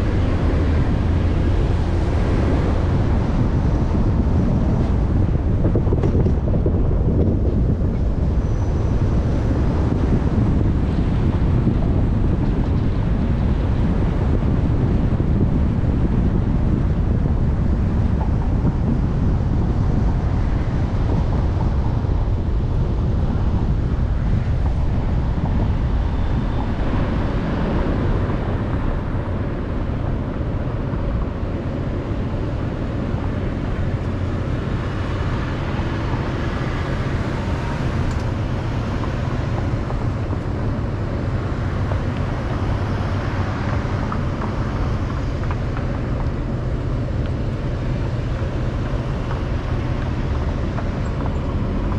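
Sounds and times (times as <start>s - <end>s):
car road and wind rumble: 0.0s - 51.9s.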